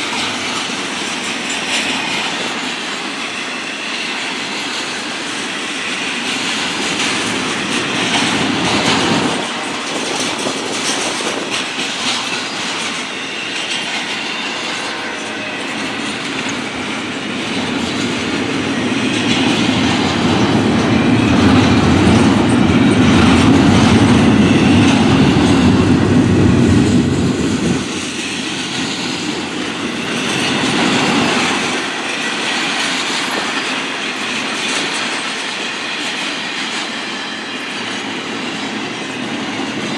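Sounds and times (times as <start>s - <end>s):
train passing on rails: 0.0s - 39.9s.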